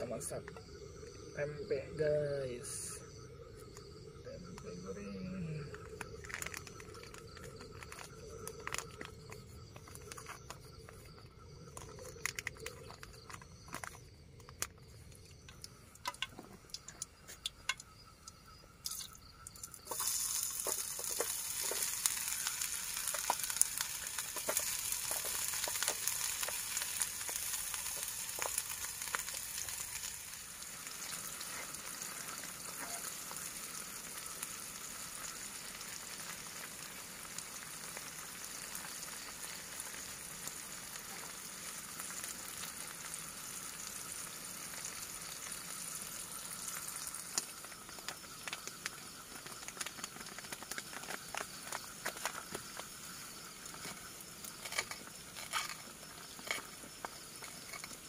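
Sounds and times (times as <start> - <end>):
food sizzling in hot oil: 0.0 - 14.0, 15.0 - 58.0.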